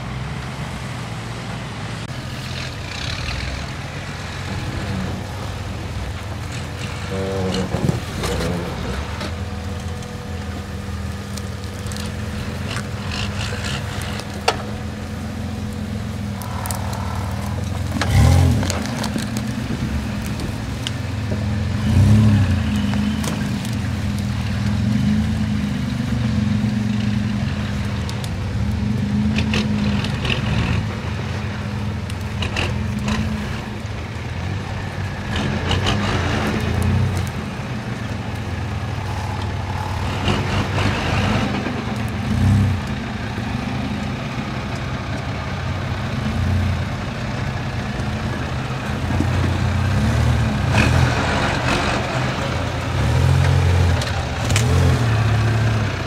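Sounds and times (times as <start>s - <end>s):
off-road car engine revving: 0.0s - 56.0s.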